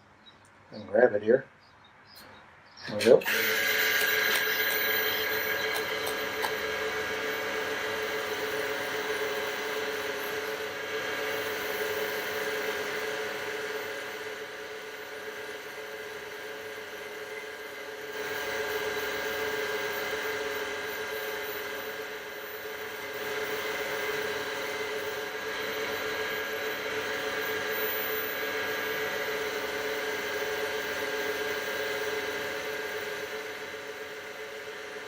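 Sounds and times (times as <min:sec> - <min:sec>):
wood lathe motor whine: 0:02.9 - 0:35.0.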